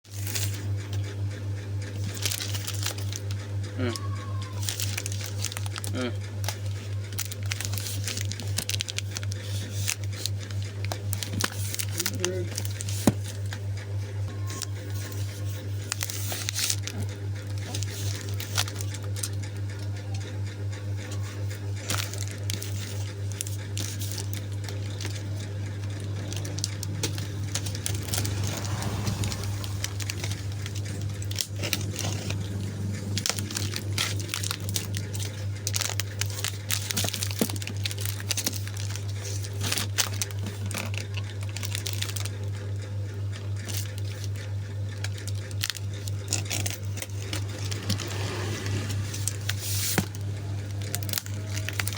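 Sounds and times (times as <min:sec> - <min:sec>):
steady low hum: 0:00.1 - 0:51.9
plastic and cardboard crinkling: 0:01.9 - 0:03.4, 0:04.0 - 0:13.6, 0:14.4 - 0:19.4, 0:21.0 - 0:42.5, 0:43.6 - 0:51.9.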